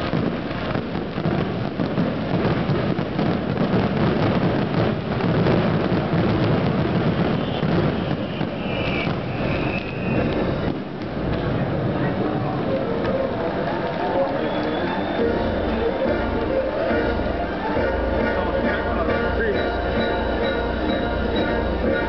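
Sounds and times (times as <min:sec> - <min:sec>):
fireworks booming and crackling: 0:00.0 - 0:22.0.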